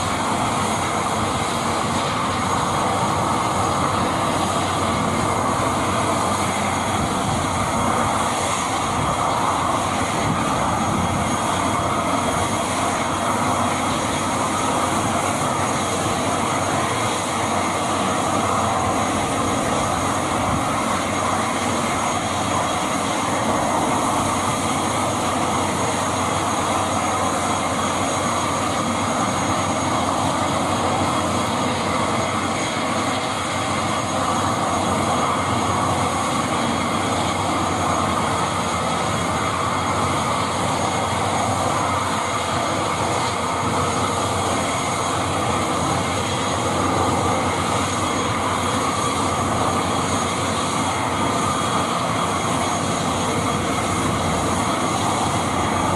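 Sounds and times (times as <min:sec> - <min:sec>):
turboprop engine idling: 0:00.0 - 0:55.9.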